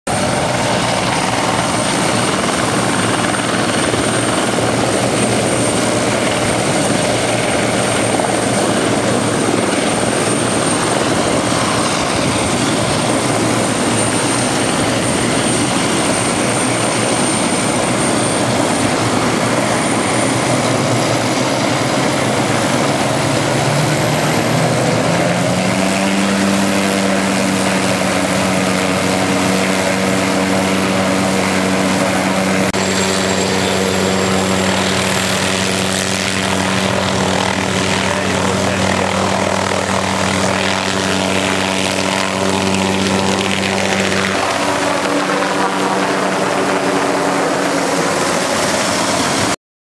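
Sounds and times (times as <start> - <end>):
helicopter rotor chop: 0.1 - 49.6
helicopter turbine whine: 0.1 - 49.6.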